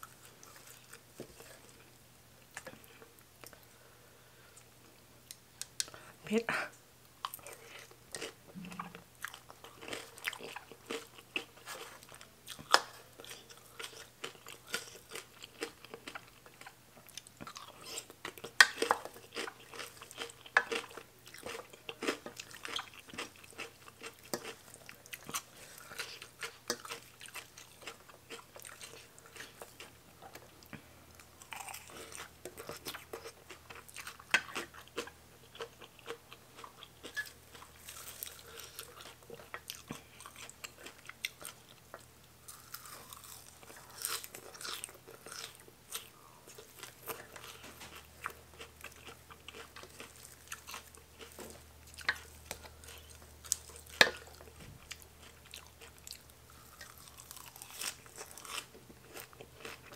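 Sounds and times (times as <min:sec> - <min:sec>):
person chewing and crunching: 0:00.0 - 0:03.7, 0:07.2 - 0:59.9.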